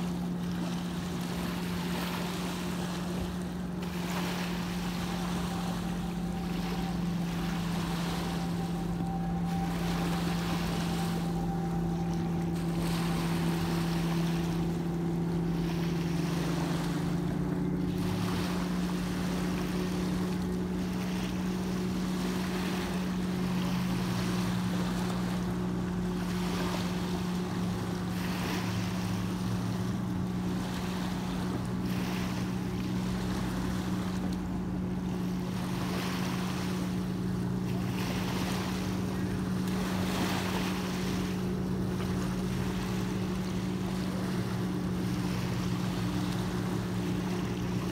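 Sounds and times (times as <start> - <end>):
low engine drone: 0.0 - 47.9
small waves lapping on shore: 0.0 - 47.9.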